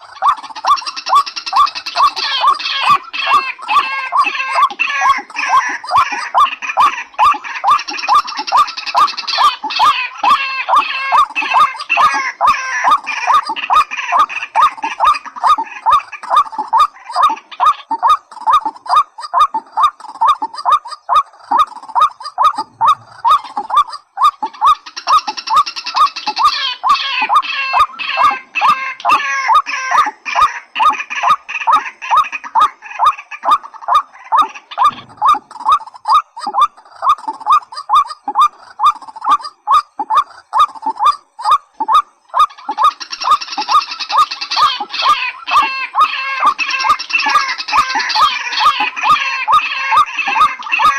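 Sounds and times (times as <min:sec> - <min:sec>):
harsh dense bird calling: 0:00.0 - 0:50.9
rail bird calls: 0:00.0 - 0:50.9.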